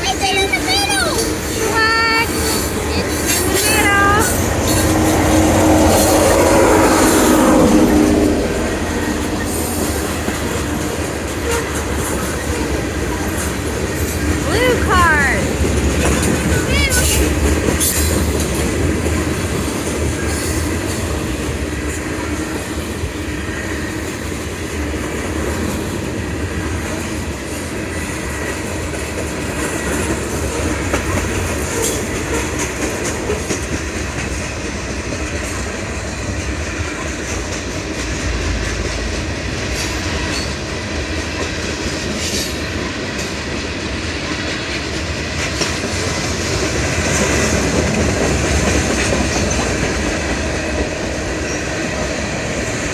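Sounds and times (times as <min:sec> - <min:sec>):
wheels clacking over rail joints: 0:00.0 - 0:14.7, 0:15.5 - 0:52.9
freight train rolling past: 0:00.0 - 0:52.9.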